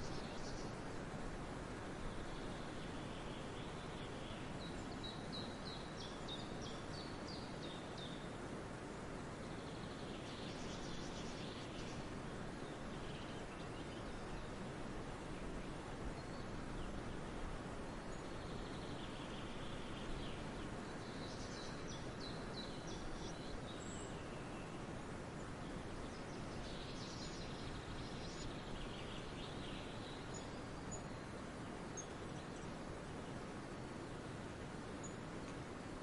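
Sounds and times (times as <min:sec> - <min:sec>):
small birds twittering: 0:00.0 - 0:01.0, 0:01.8 - 0:36.0
outdoor background hiss: 0:00.0 - 0:36.0.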